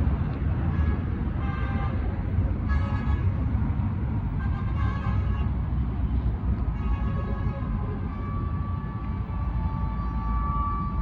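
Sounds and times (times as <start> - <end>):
road traffic rumbling: 0.0 - 11.0.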